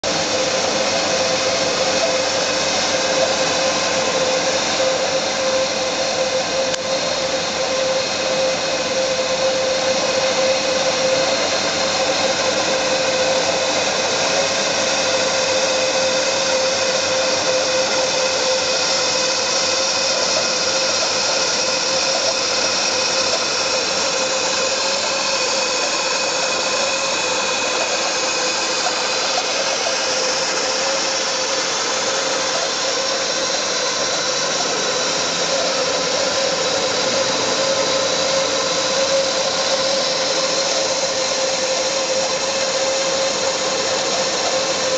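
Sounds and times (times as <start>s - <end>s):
milling machine motor whine: 0.0s - 44.9s.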